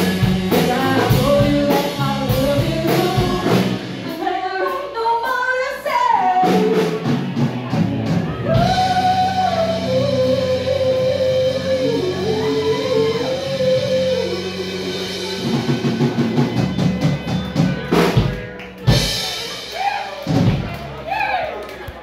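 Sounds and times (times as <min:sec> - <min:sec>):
sliding lead melody: 0:00.0 - 0:05.1, 0:06.1 - 0:20.8
live rock band playing: 0:00.0 - 0:22.0.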